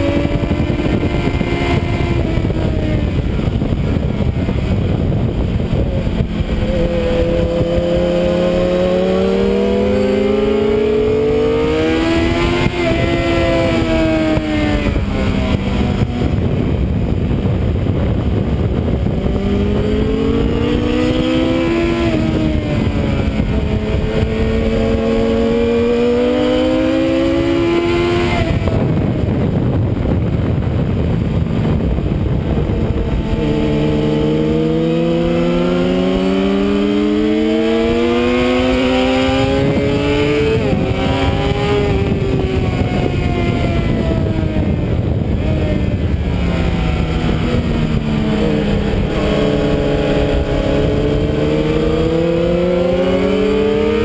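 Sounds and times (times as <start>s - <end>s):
motorcycle engine accelerating: 0.0s - 54.0s
wind rush: 0.0s - 54.0s.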